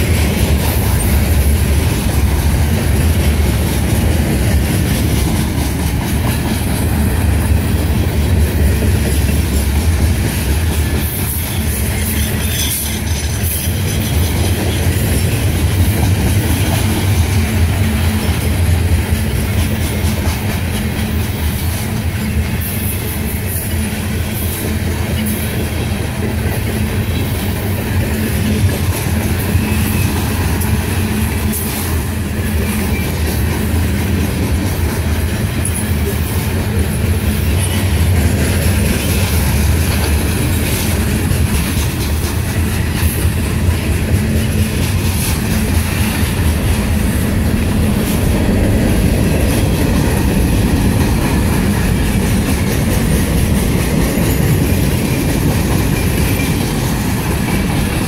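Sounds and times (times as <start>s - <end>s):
freight train wheels rumbling on rail: 0.0s - 58.0s
train cars clicking and clacking: 0.0s - 58.0s.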